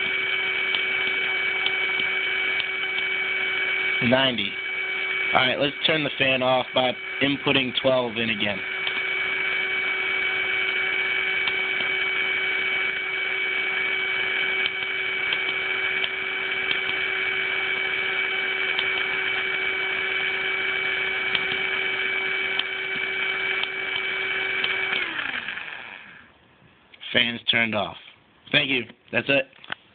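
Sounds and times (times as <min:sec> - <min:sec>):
small motor spinning fan: 0:00.0 - 0:26.3.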